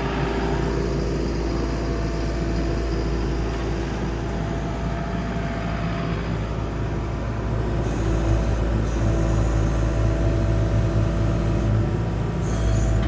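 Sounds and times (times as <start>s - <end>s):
diesel engine running: 0.0s - 13.0s
steady whine: 0.0s - 13.0s.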